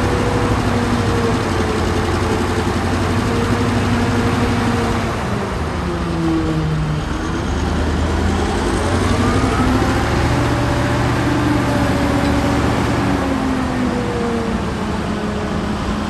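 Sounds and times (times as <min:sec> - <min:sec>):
heavy diesel engine under load: 0:00.0 - 0:16.0.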